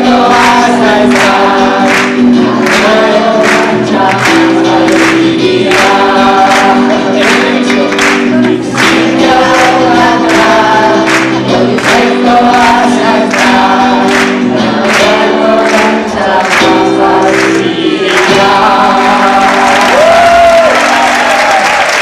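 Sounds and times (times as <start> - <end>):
audience singing together: 0.0 - 22.0.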